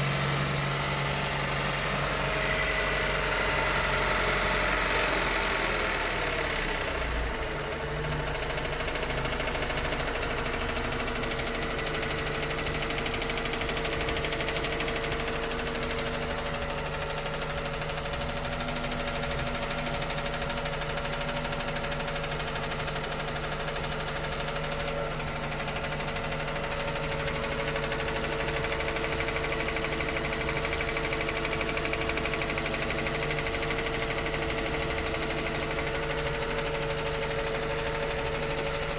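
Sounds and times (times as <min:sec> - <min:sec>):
car engine idling with ticking: 0:00.0 - 0:38.9.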